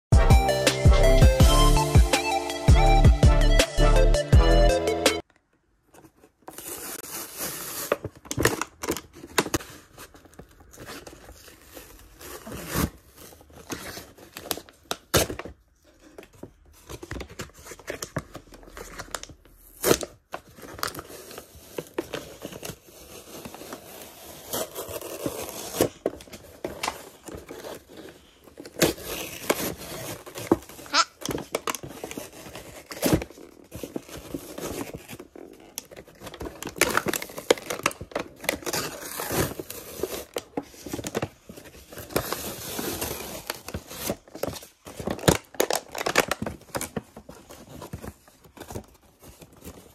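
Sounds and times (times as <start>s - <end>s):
plastic wrapping crinkling: 5.8s - 49.9s
cardboard packaging tearing: 6.0s - 49.9s.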